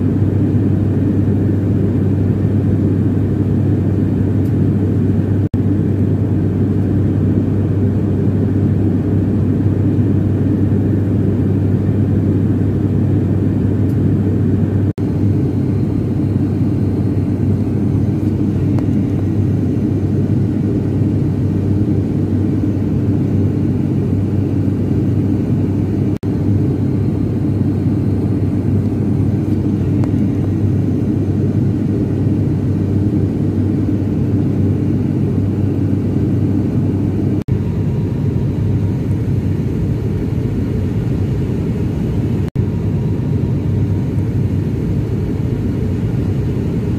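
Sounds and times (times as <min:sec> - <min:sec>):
airliner engine and propeller drone: 0:00.0 - 0:46.9.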